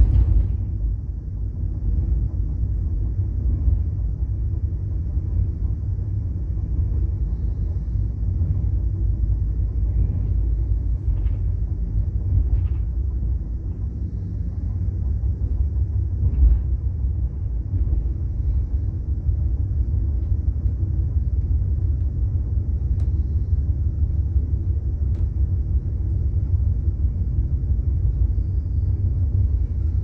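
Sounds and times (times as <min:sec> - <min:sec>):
train rumble from inside carriage: 0:00.0 - 0:30.0.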